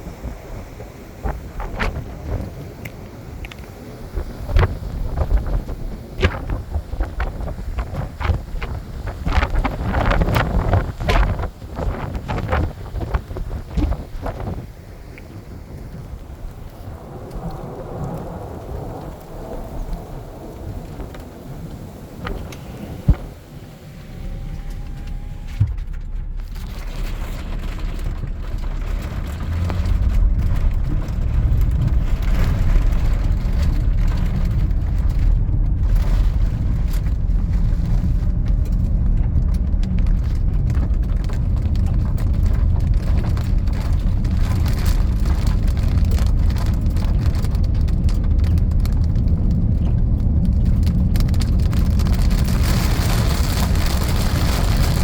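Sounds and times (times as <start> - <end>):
rain and hail hitting: 0.0 - 55.0
wind buffeting microphone: 0.0 - 55.0.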